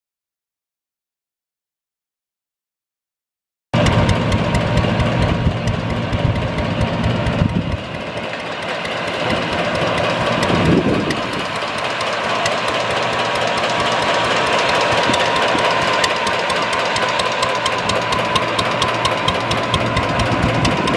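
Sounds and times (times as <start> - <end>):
gas engine chuffing: 3.8 - 20.9.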